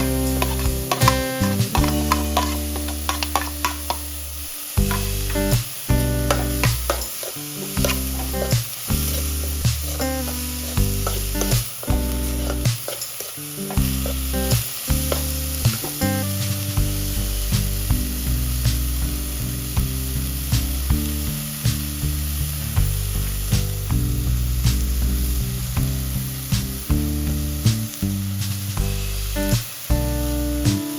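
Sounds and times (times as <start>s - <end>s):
background music with bass line: 0.0s - 12.8s, 13.7s - 30.9s
food sizzling in frying oil: 0.0s - 30.9s.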